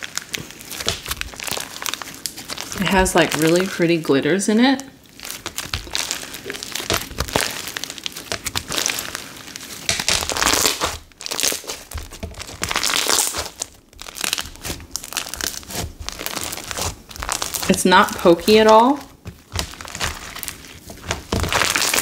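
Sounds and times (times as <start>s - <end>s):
slime crackling and popping: 0.0s - 4.0s, 4.6s - 22.0s.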